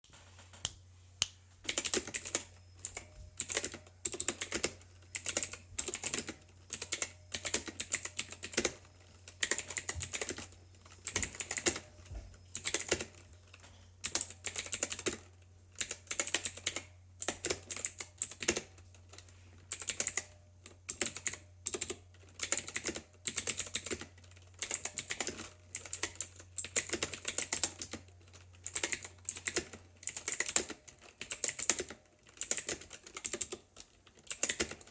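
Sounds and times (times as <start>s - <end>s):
clicky mechanical keyboard typing: 1.6s - 34.9s.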